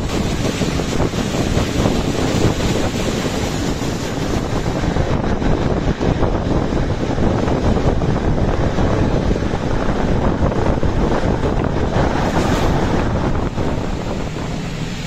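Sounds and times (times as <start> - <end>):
train wheels rumbling on track: 0.0 - 15.0
wind buffeting microphone: 0.0 - 15.0.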